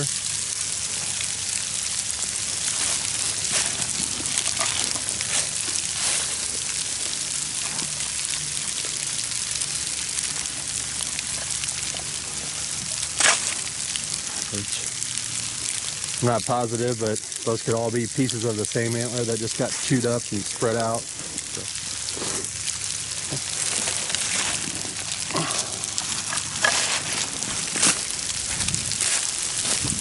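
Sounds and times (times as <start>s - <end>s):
rain and sleet hissing: 0.0s - 30.0s.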